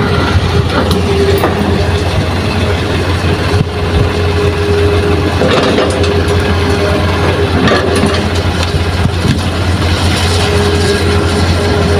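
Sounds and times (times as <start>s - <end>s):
excavator diesel engine running: 0.0s - 11.9s.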